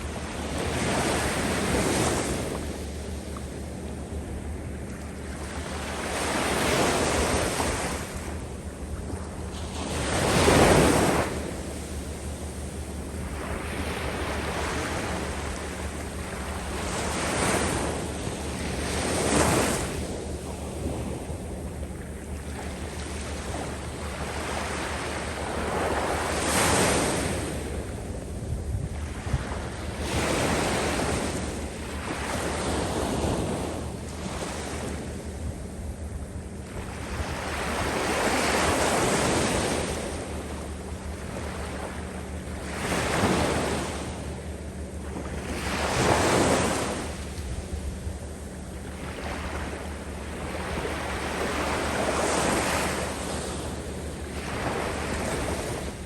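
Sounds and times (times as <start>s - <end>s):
waves breaking on sand beach: 0.0s - 2.8s, 5.2s - 21.8s, 22.4s - 35.4s, 36.6s - 44.3s, 45.0s - 56.0s
wind rumble on microphone: 0.0s - 56.0s.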